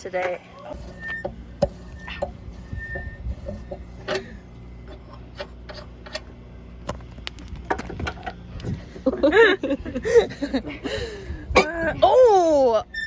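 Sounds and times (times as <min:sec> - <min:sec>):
low steady hum: 0:00.4 - 0:13.0.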